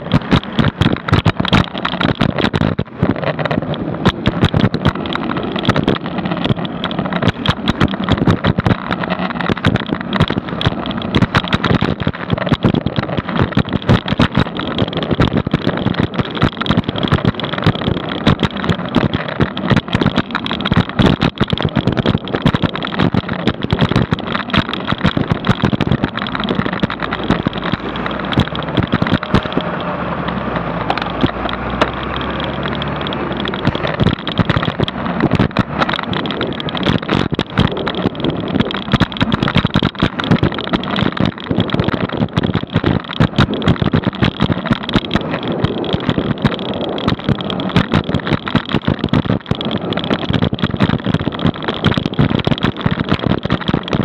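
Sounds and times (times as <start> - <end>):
bus engine rumble: 0.0 - 54.0
wind buffeting microphone: 0.0 - 54.0.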